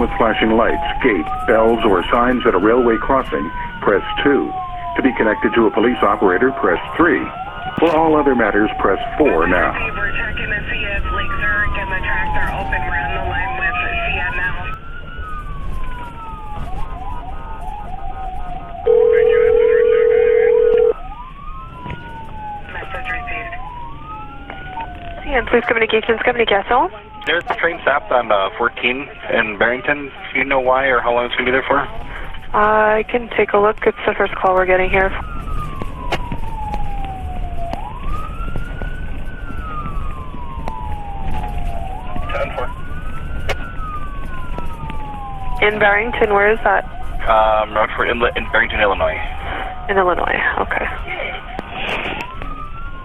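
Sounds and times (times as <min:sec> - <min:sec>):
emergency vehicle siren wailing: 0:00.0 - 0:53.0.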